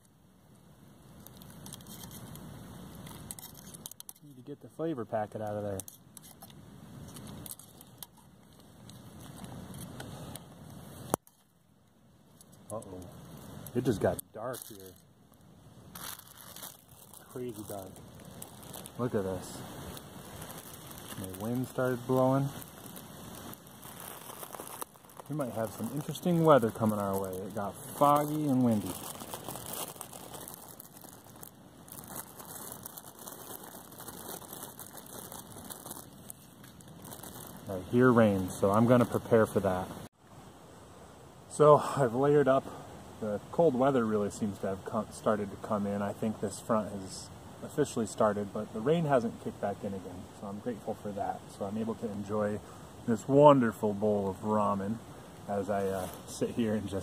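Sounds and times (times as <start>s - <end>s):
wind: 0.0s - 57.0s
light rain on leaves: 0.4s - 57.0s.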